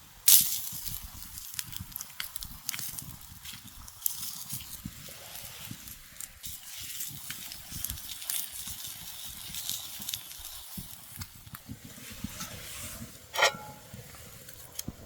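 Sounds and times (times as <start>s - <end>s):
campfire crackling: 0.1s - 15.0s.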